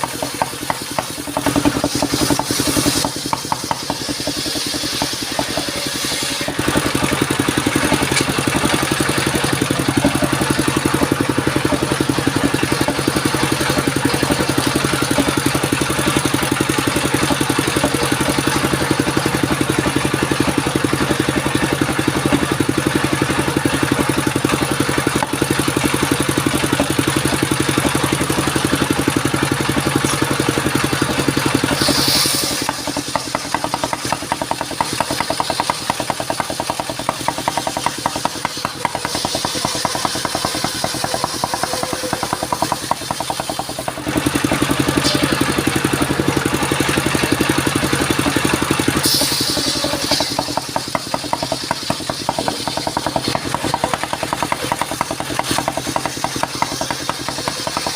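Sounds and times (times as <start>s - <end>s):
circular saw engine running: 0.0s - 57.9s.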